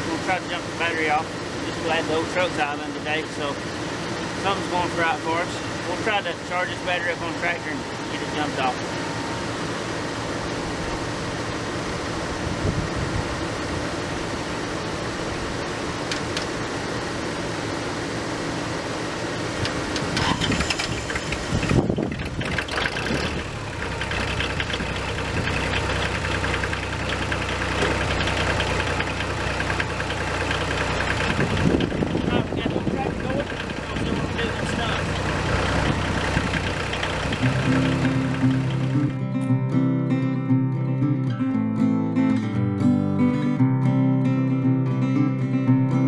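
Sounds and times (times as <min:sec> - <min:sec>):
pickup truck engine idling: 0:00.0 - 0:39.4
tractor diesel engine running: 0:00.0 - 0:39.5.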